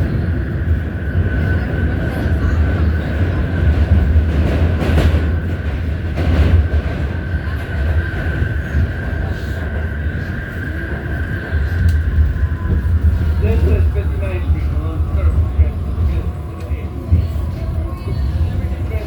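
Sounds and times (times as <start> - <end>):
subway traction motors howling: 0.0 - 19.0
train rumbling on rails: 0.0 - 19.0.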